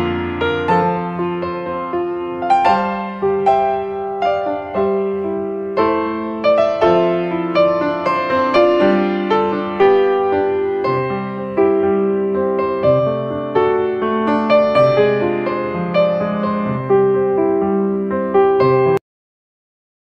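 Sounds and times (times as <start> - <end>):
solo piano notes: 0.0 - 19.0.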